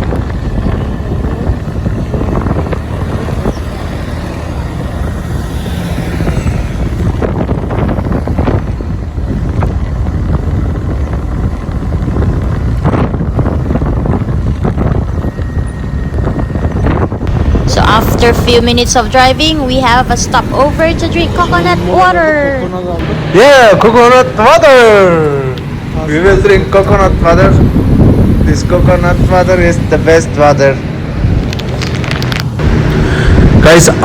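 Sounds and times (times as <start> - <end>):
road noise: 0.0 - 34.0
scooter engine: 0.0 - 34.0
wind buffeting microphone: 0.0 - 34.0.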